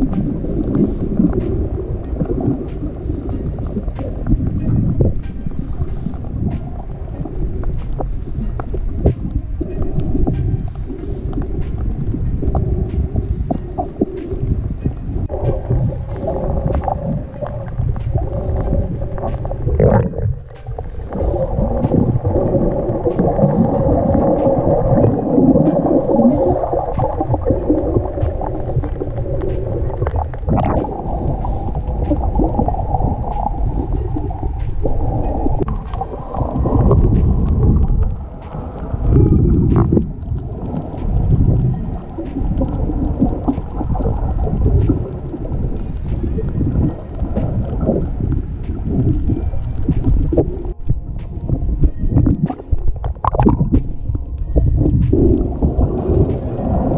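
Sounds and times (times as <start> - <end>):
faint clicks: 0.0 - 56.8
underwater rumble of moving water: 0.0 - 56.9.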